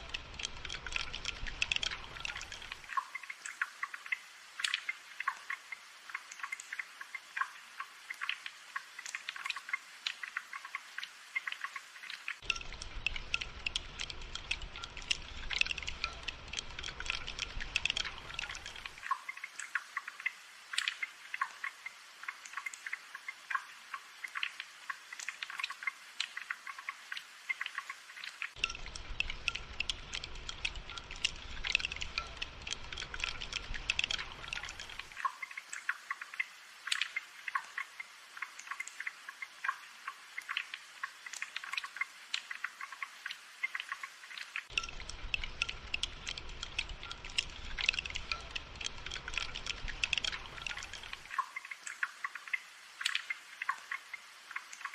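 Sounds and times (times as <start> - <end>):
rain dripping and pattering: 0.0 - 54.9.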